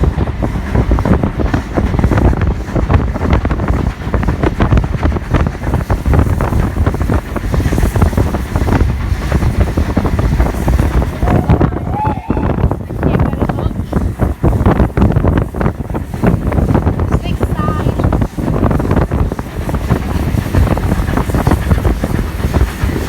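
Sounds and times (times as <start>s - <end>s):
train rumble: 0.0s - 23.0s
wind buffeting microphone: 0.0s - 23.0s.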